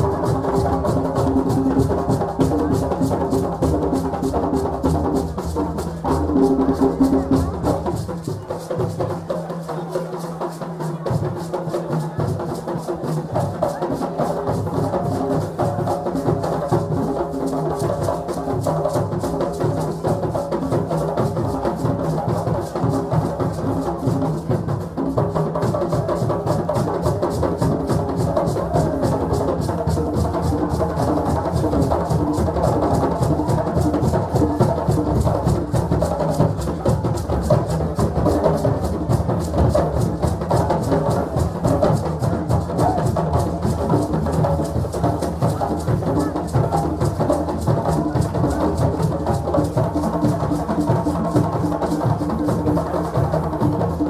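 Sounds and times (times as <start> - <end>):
hand drums playing fast rhythm: 0.0 - 54.0.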